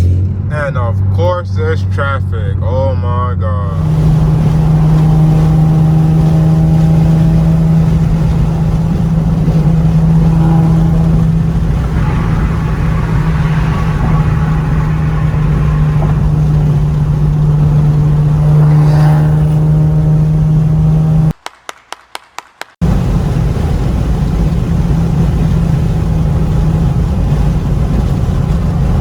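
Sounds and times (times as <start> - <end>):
car engine droning: 0.0 - 21.4, 22.8 - 29.0
road noise rumble: 0.0 - 21.4, 22.8 - 29.0.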